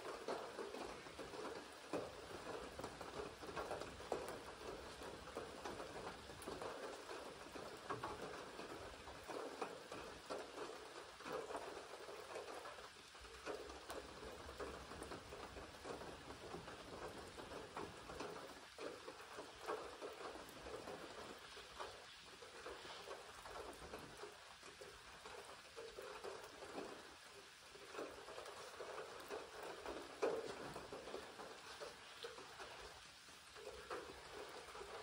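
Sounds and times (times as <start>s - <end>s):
rain falling steadily: 0.0s - 35.0s.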